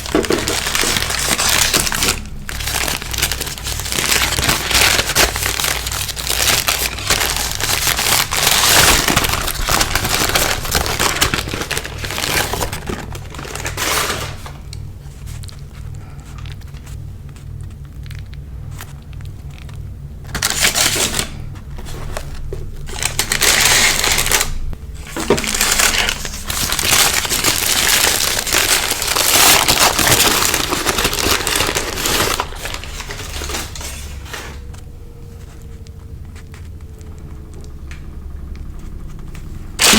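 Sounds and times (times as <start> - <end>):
crunching fried food: 0.0 - 39.9
paper wrappers crinkling: 0.0 - 39.9.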